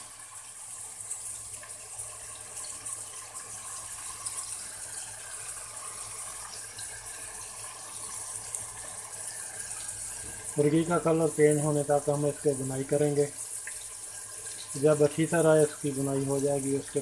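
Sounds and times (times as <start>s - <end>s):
chicken and onions sizzling in oil: 0.0s - 17.0s.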